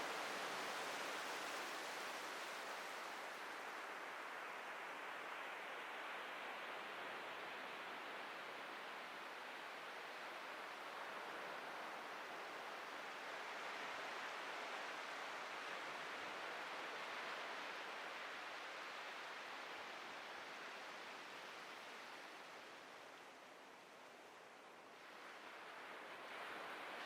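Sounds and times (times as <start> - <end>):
ocean surf washing on beach: 0.0 - 27.0.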